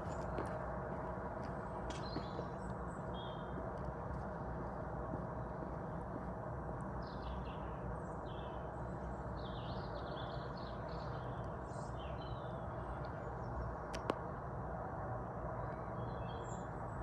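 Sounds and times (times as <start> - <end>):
small birds chirping: 0.0 - 14.3, 15.6 - 17.0
low background rumble: 0.0 - 17.0.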